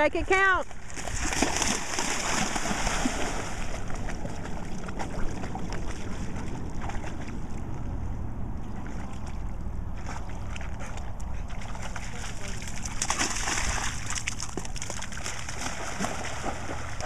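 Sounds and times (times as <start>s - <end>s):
dog splashing through water: 0.6s - 17.0s.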